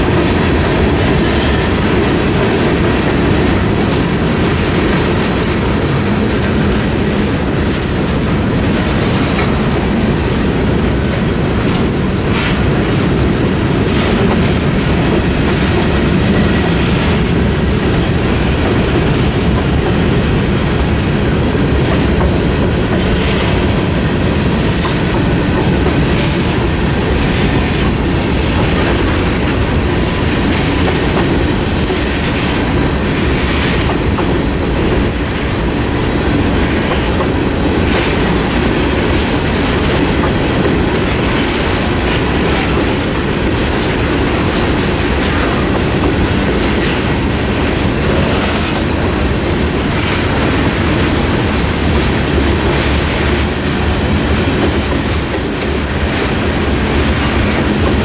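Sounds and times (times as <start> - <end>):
clickety-clack over rail joints: 0.0 - 58.0
train wheels rumbling on rails: 0.0 - 58.0.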